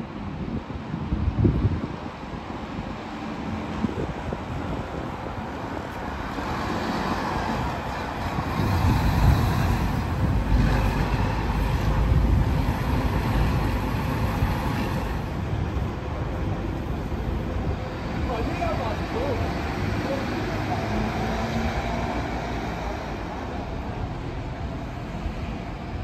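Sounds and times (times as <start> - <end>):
traffic noise: 0.0 - 26.0
bus engine driving past: 1.9 - 26.0
car passing: 3.0 - 26.0.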